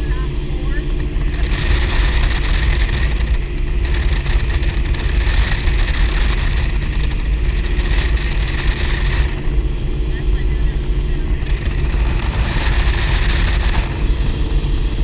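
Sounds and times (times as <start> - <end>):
powerboat engines droning: 0.0 - 15.0
rushing water noise: 0.9 - 9.7, 11.3 - 15.0.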